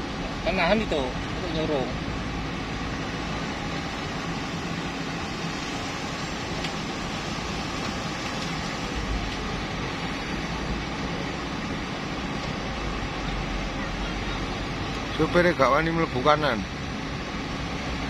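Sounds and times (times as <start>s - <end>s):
river rushing: 0.0s - 18.0s
truck engine running: 0.0s - 18.0s.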